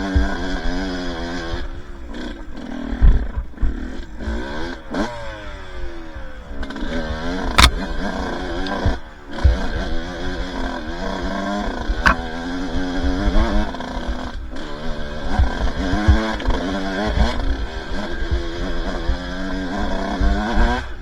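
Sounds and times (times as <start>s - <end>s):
bike knocking over rough ground: 0.0s - 5.1s, 6.6s - 20.9s
dirt bike engine revving: 0.0s - 21.0s.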